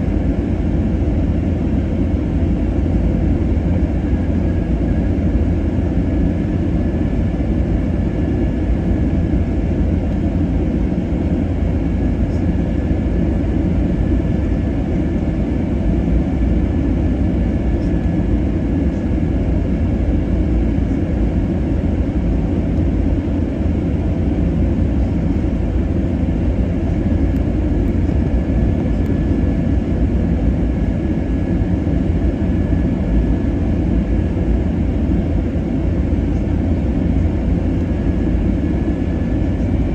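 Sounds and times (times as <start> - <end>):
aircraft engine and airflow rumble: 0.0 - 39.9
faint steady whine: 0.0 - 39.9.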